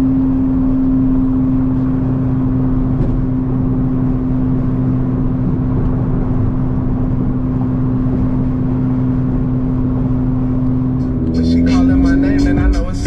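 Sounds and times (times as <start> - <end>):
car engine droning: 0.0 - 13.0
road and wind noise: 0.0 - 13.0.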